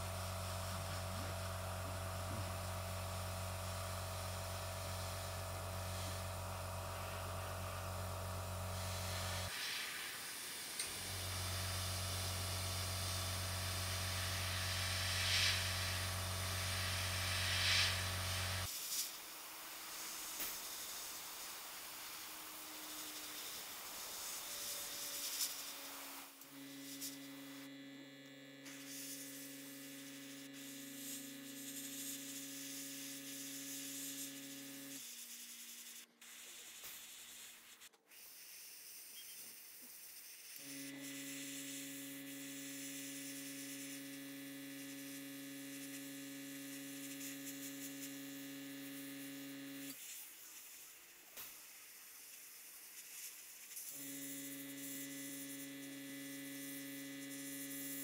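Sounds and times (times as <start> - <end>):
airbrush hissing: 0.0 - 27.7, 28.6 - 49.2, 49.8 - 58.0
small electric motor humming: 0.0 - 58.0.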